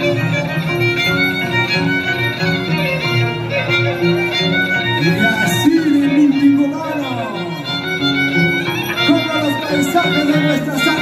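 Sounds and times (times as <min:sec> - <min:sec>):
violin melody: 0:00.0 - 0:11.0.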